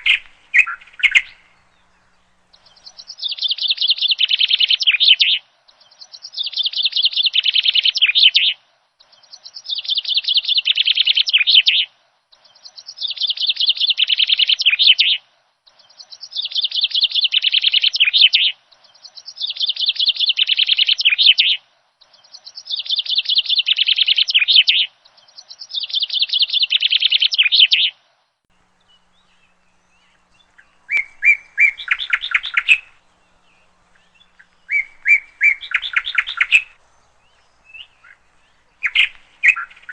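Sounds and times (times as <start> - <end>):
bird singing fast high chirps: 0.0 - 15.2, 15.8 - 27.9, 28.8 - 39.9.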